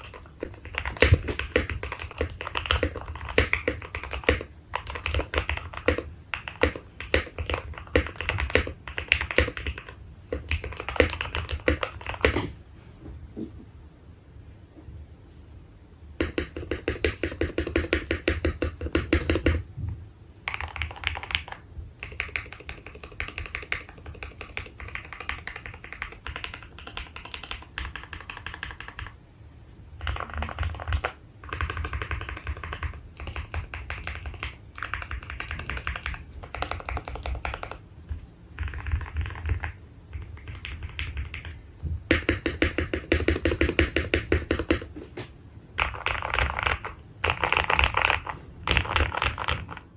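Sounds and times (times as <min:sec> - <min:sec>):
fast mechanical keyboard typing: 0:00.0 - 0:12.5, 0:16.2 - 0:19.6, 0:20.4 - 0:29.2, 0:30.0 - 0:45.0, 0:45.8 - 0:49.9.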